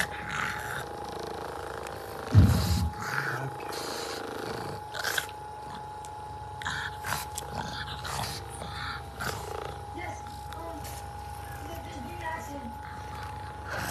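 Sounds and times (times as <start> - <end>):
massage gun whining: 0.0 - 13.9.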